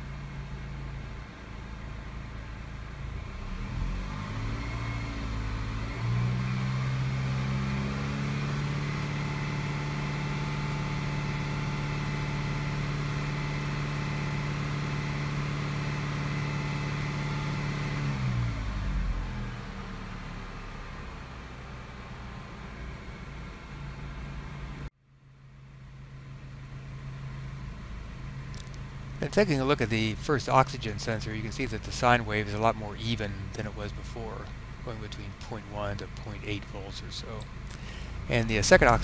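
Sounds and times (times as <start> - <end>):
car engine revving: 3.1 - 24.9, 27.8 - 39.0.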